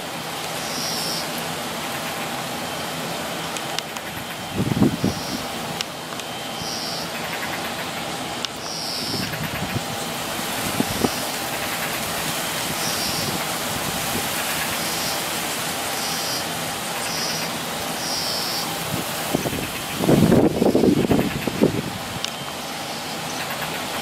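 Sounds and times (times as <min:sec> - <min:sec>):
outdoor hiss and rumble: 0:00.0 - 0:24.0.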